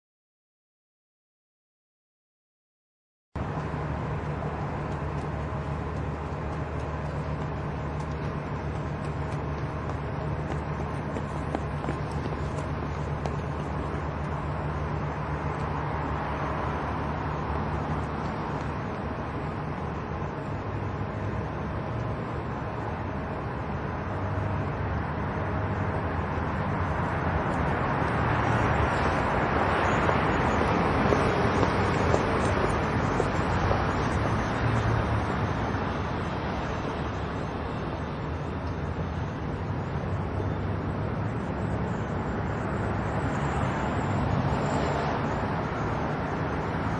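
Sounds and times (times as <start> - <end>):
cars passing: 3.4 - 46.9.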